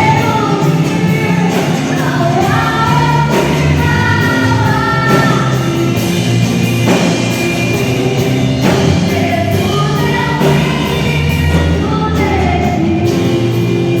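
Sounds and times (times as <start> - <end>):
voices singing held notes: 0.0 - 14.0
worship band playing: 0.0 - 14.0.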